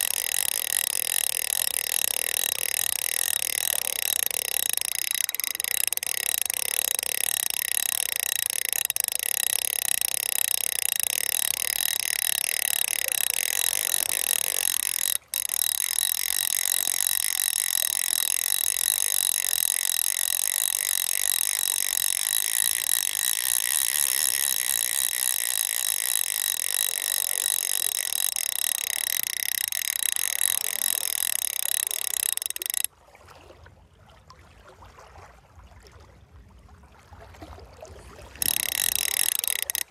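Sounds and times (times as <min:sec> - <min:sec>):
fishing reel drag buzzing: 0:00.0 - 0:32.9, 0:38.4 - 0:39.9.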